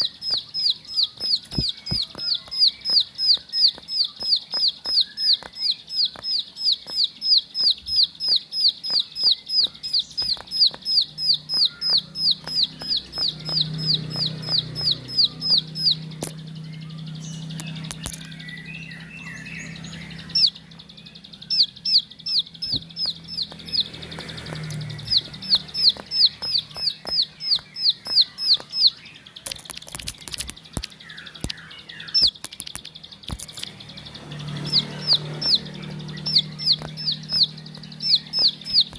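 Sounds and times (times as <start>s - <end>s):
bird singing high sharp notes: 0.0s - 38.9s.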